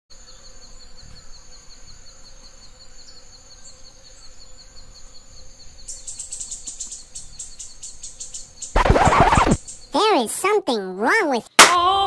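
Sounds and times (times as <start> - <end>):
insects trilling: 0.1 - 11.5
rapidly pulsing insect chirp: 0.1 - 11.5.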